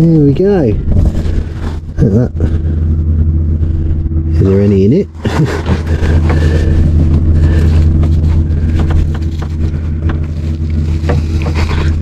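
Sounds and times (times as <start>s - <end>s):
electric pump humming: 0.0s - 12.0s.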